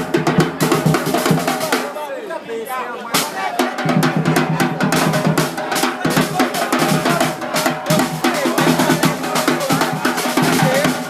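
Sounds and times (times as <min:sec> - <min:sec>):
rapid snare drum rolls: 0:00.0 - 0:02.0, 0:03.1 - 0:11.0.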